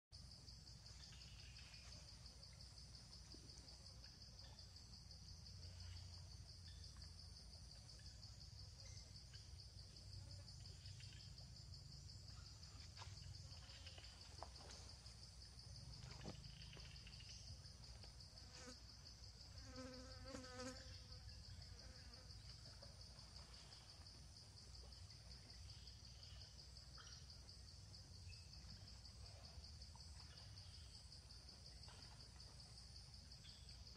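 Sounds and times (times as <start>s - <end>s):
insects buzzing: 0.2s - 33.9s.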